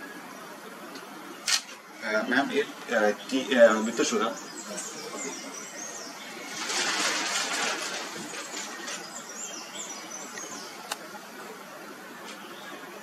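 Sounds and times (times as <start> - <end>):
small birds twittering: 0.0 - 13.0
hissing rustle: 0.8 - 13.0.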